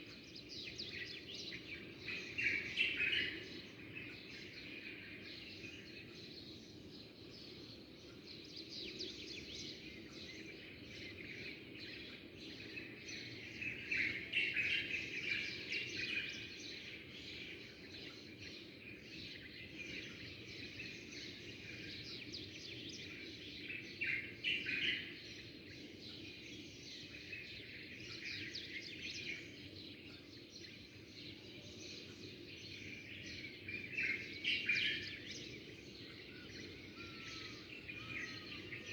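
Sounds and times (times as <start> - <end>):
small birds chirping: 5.3 - 38.9.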